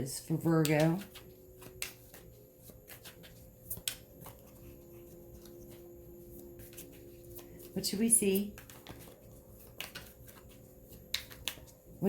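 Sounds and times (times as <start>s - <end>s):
faint steady hum: 0.0s - 12.0s
cards being handled: 0.4s - 12.0s.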